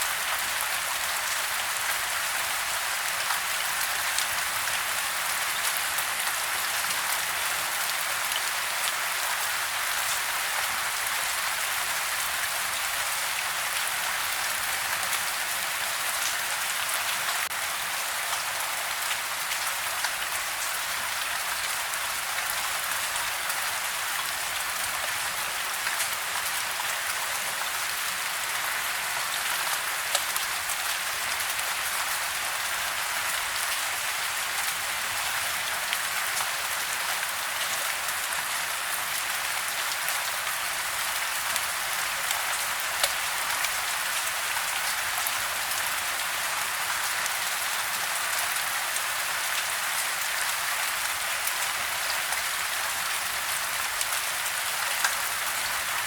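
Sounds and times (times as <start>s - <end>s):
soft rain: 0.0s - 56.0s.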